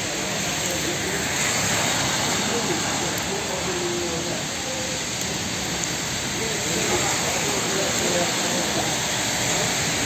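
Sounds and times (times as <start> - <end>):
heavy rain on wet road: 0.0 - 10.0.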